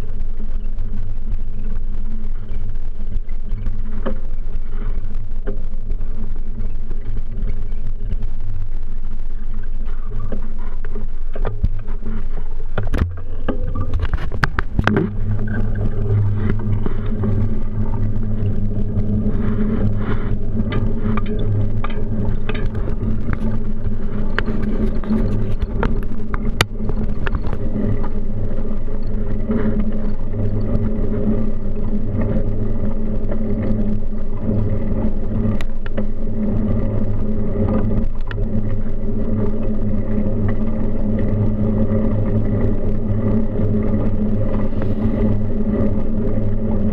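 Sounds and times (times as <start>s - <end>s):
bicycle tyres rolling: 0.0s - 46.9s.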